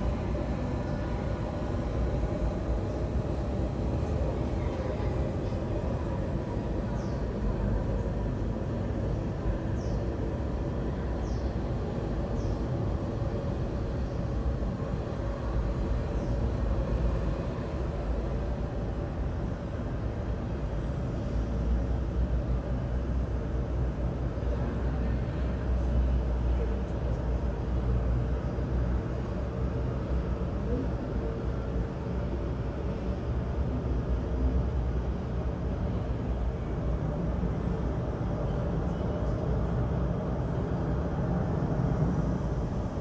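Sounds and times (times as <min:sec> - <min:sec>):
jet engines running: 0:00.0 - 0:26.4, 0:27.0 - 0:43.0.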